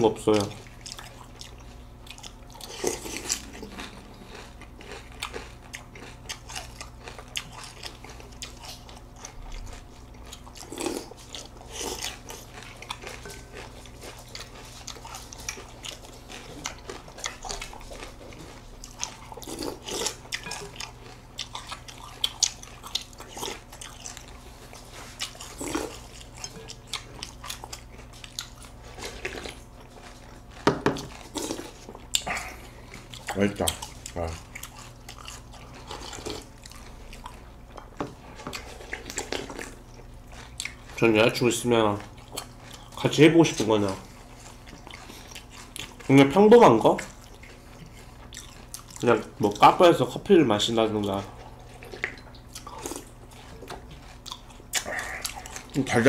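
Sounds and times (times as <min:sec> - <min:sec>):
chewing and crunching cereal: 0:00.0 - 0:56.0.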